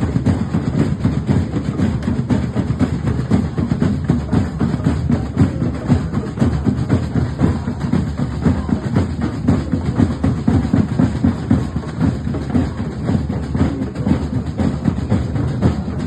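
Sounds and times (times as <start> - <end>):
drums beating fast rhythm: 0.0 - 16.0.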